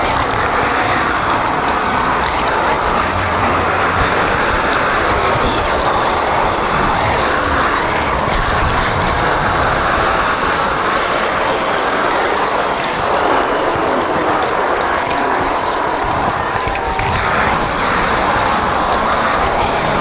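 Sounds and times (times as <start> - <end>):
radio static and hiss: 0.0 - 20.0.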